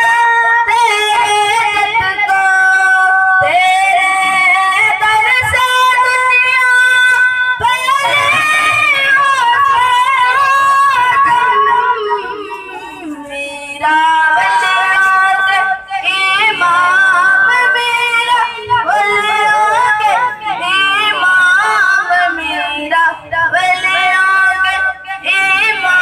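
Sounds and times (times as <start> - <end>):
boy singing into microphone: 0.0 - 26.0.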